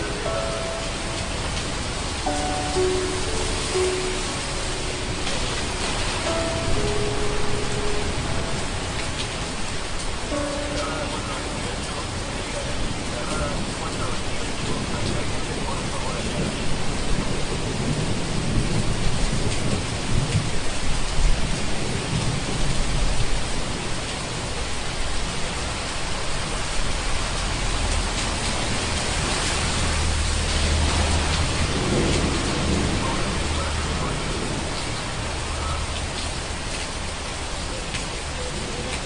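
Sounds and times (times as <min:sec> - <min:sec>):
heavy rain hissing: 0:00.0 - 0:39.0
low rolling thunder: 0:00.9 - 0:24.0, 0:27.4 - 0:36.0.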